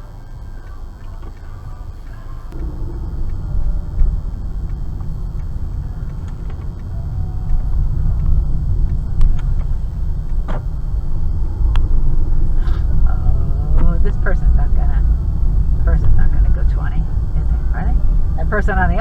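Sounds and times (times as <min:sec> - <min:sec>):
car cabin rumble: 0:00.0 - 0:19.0
faint clicks: 0:00.0 - 0:19.0.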